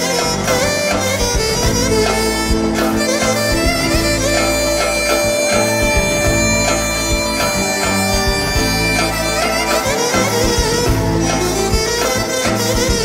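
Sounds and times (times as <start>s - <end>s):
drone: 0.0s - 13.0s
pulsing bass beat: 0.0s - 13.0s
wind instrument lead line: 0.0s - 13.0s.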